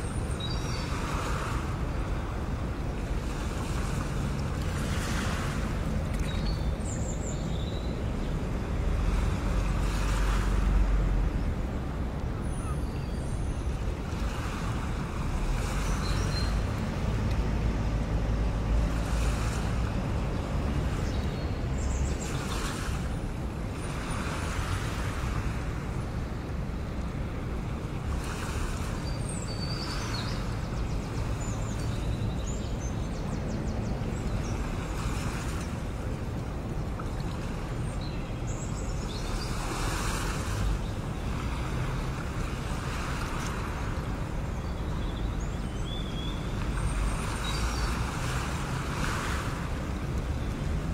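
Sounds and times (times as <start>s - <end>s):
waves washing in: 0.0s - 50.9s
wind: 0.0s - 50.9s.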